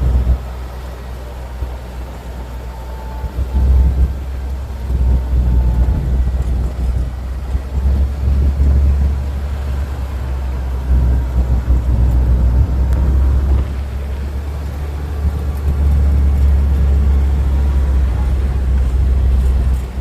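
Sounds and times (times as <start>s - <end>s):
vehicle rumbling: 0.0s - 20.0s.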